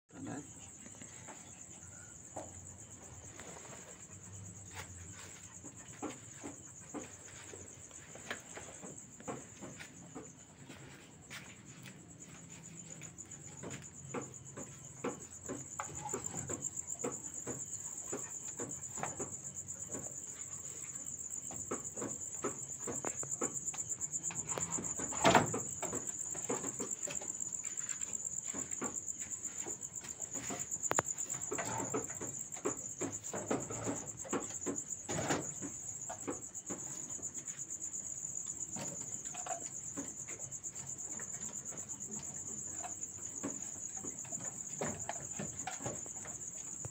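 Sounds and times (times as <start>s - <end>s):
crickets trilling: 0.1s - 46.9s
knocks and clatter of wooden cages: 0.1s - 46.9s.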